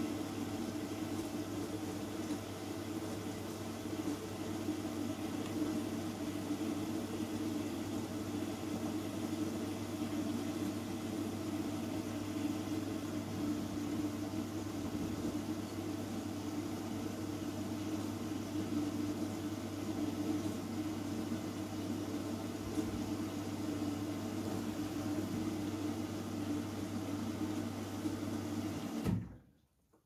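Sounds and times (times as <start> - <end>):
washing machine humming: 0.0 - 29.7.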